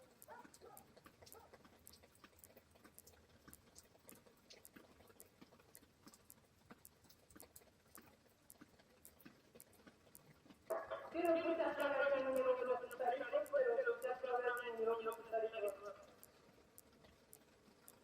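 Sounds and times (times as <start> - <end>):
raindrops ticking: 0.0 - 18.0.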